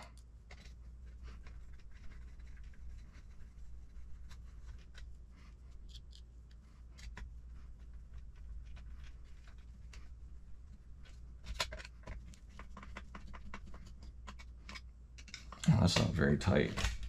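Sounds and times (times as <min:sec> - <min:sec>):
small clicks and light scraping: 0:00.0 - 0:17.0.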